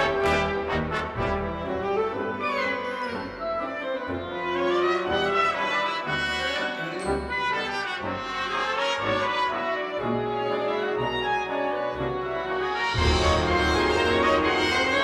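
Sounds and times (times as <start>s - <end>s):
wind orchestra with brass: 0.0s - 15.0s.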